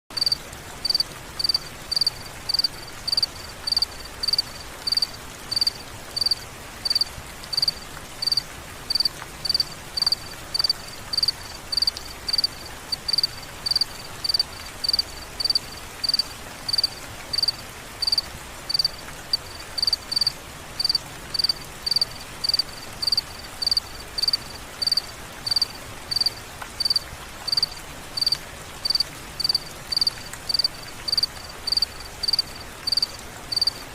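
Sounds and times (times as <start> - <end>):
faint rain hiss: 0.1 - 33.9
cricket chirping: 0.2 - 33.8.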